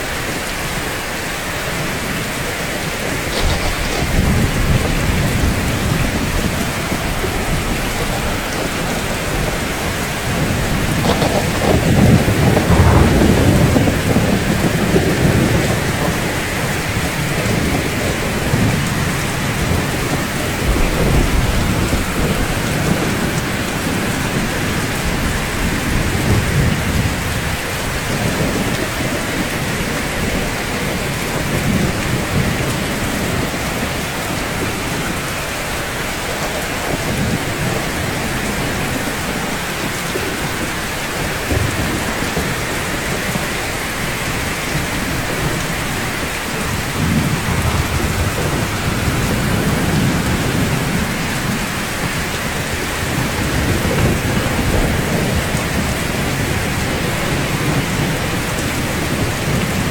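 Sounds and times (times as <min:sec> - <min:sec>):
rain on rooftops: 0:00.0 - 0:59.9
rolling thunder: 0:01.9 - 0:59.9.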